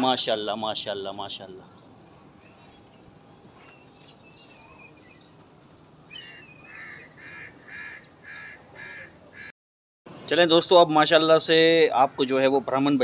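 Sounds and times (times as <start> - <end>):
faint background noise: 0.0 - 9.5, 10.1 - 13.0.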